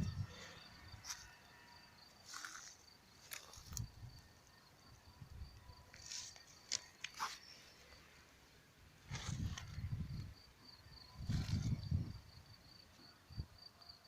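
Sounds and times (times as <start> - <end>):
high-pitched insect trill: 0.0 - 8.0, 9.2 - 14.0.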